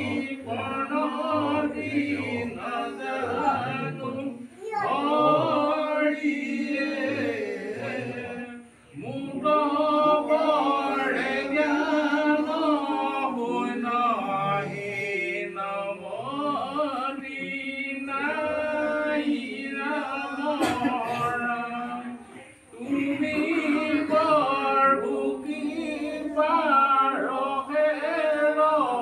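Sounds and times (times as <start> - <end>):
men chanting a devotional song: 0.0 - 29.0.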